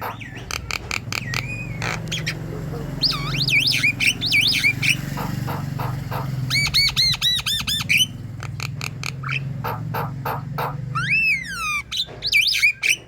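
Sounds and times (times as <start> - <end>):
bird whistling: 0.0 - 13.0.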